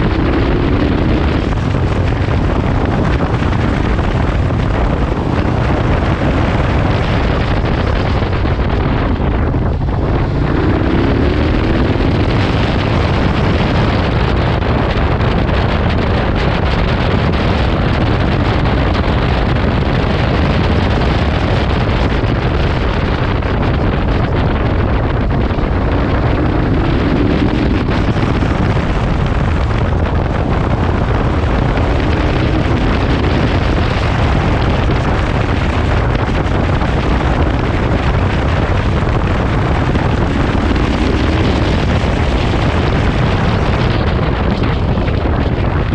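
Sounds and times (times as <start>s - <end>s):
motorcycle engine cruising: 0.0s - 45.9s
wind rushing over microphone: 0.0s - 45.9s.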